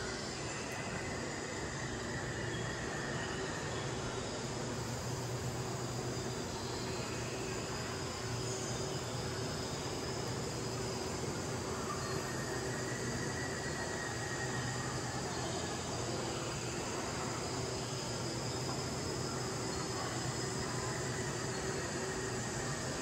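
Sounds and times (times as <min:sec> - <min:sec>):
mechanical hum and hiss: 0:00.0 - 0:23.0.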